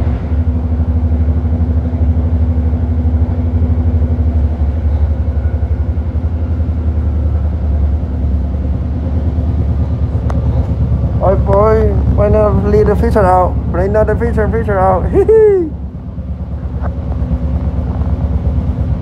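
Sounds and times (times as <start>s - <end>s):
constant hum: 0.0s - 19.0s
train car low rumble: 0.0s - 19.0s.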